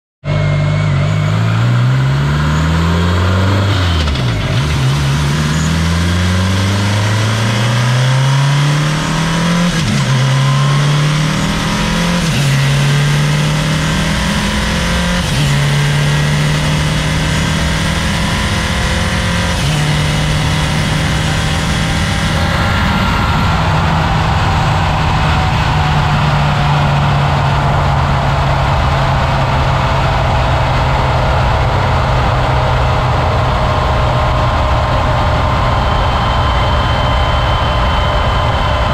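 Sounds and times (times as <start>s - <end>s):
air and road rush: 0.2s - 38.9s
car engine accelerating: 0.2s - 38.9s.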